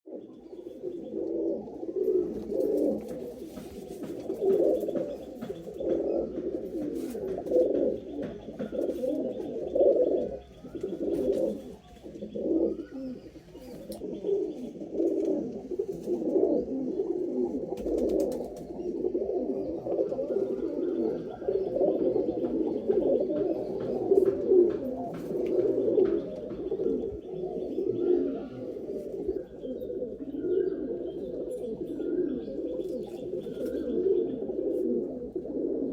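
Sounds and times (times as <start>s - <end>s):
pigeons cooing: 0.1s - 35.9s.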